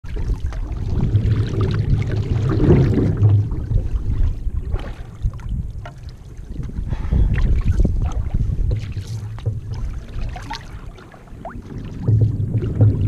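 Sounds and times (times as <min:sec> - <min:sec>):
low rumble: 0:00.1 - 0:10.4, 0:11.4 - 0:13.0
water splashing against canoe: 0:00.1 - 0:13.0.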